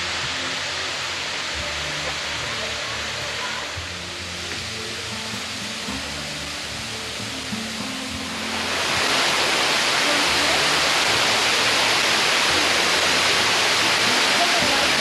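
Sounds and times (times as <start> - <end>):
faint background music: 0.0 - 15.0
waterfall rushing: 0.0 - 15.0.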